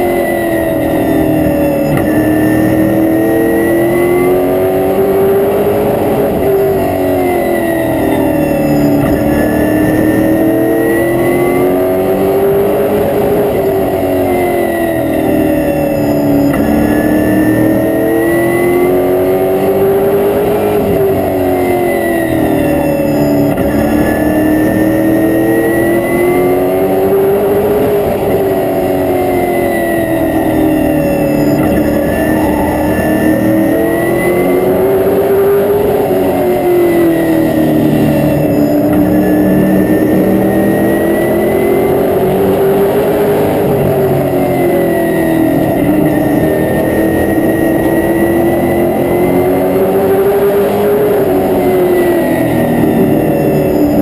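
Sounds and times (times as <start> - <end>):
race car engine: 0.0 - 54.0.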